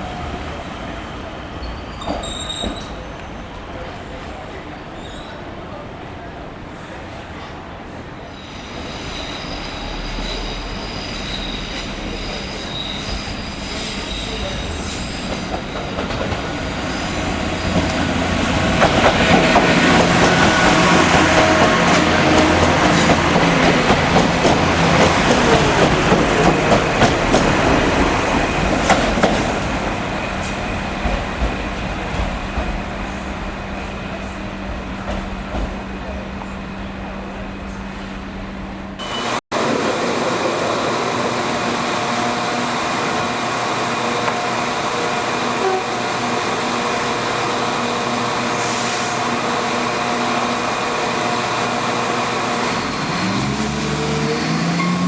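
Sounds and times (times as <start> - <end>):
train passing on rails: 0.0 - 55.0.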